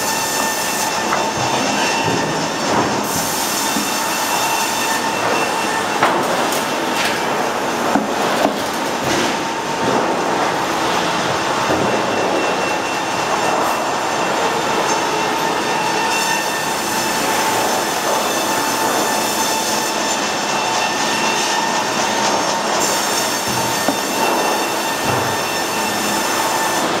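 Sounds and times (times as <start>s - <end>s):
sawmill machinery rumbling: 0.0s - 27.0s.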